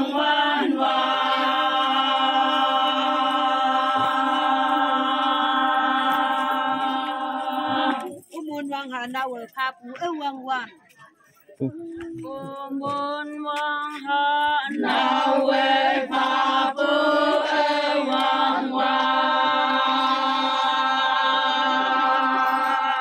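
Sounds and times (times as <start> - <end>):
women chanting in unison: 0.0 - 8.3, 12.2 - 23.0.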